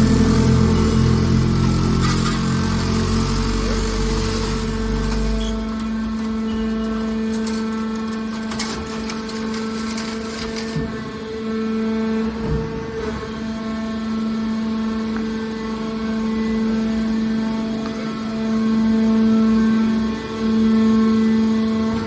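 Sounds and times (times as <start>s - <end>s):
hydraulic baler motor hum: 0.0s - 22.0s.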